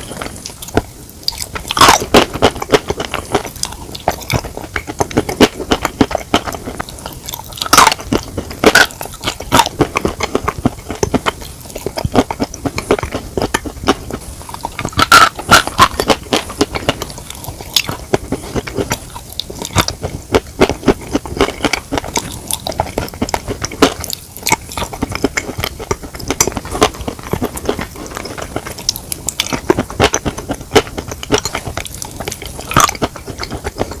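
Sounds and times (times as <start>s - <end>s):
chewing and crunchy biting: 0.0s - 34.0s.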